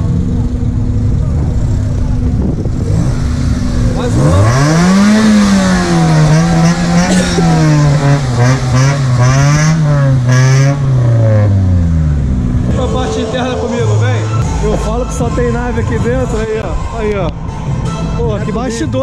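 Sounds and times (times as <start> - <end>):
car engine revving: 0.0 - 18.2.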